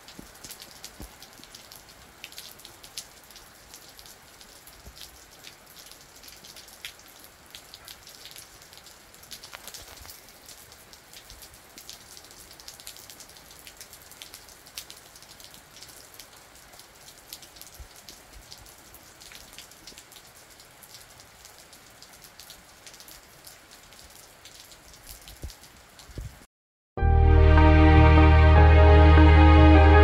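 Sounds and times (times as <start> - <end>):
raindrops ticking close by: 0.0 - 26.5
soft steady rain: 0.0 - 26.5.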